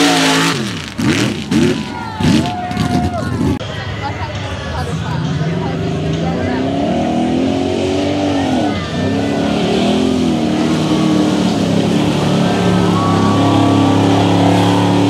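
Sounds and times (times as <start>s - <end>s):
truck engine revving hard: 0.0s - 3.6s, 5.4s - 15.0s.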